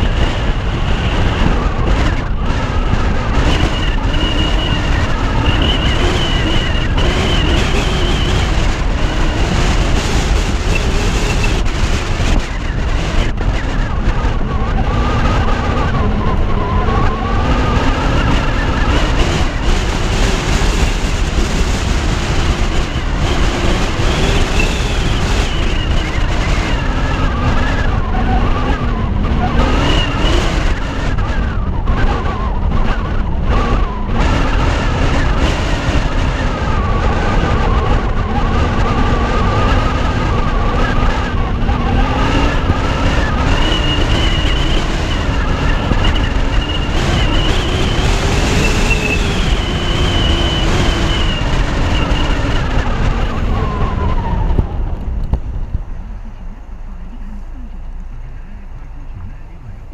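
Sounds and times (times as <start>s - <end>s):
car engine hum: 0.0s - 59.9s
wind and road noise: 0.0s - 59.9s.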